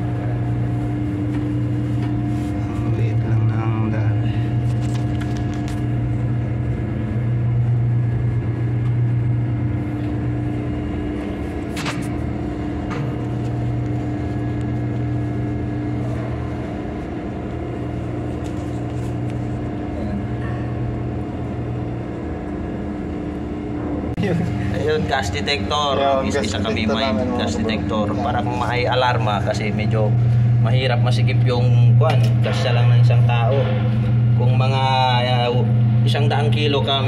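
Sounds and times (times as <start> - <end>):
ship machinery hum: 0.0 - 37.0.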